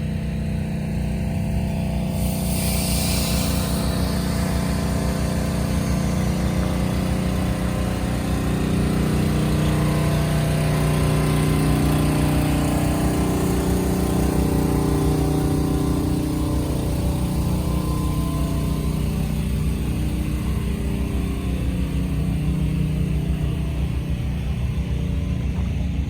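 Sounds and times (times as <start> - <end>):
diesel locomotive engine running: 0.0 - 26.0.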